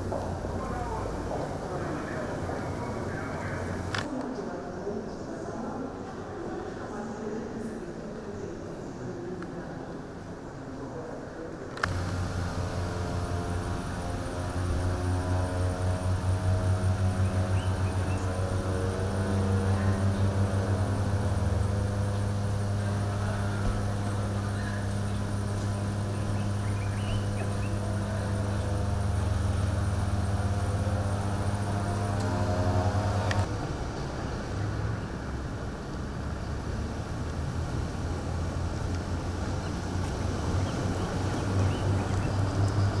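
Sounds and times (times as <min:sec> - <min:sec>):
engine idling hum: 0:00.0 - 0:04.0, 0:11.8 - 0:43.0
rough engine rumble: 0:00.0 - 0:04.1, 0:11.8 - 0:43.0.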